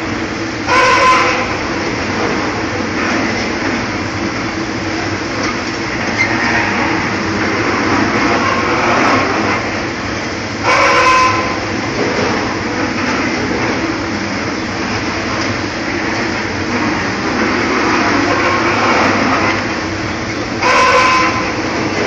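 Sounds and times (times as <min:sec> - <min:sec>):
industrial machinery running: 0:00.0 - 0:22.0.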